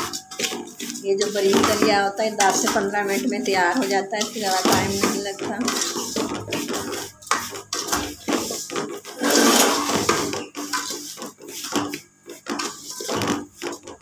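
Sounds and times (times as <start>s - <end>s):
spoon stirring dry grains in pot: 0.0s - 14.0s.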